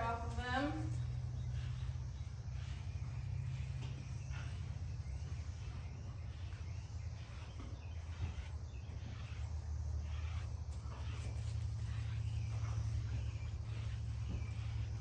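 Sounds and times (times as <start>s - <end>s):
curry comb scratching donkey coat: 0.0s - 15.0s
steady low rumble: 0.0s - 15.0s.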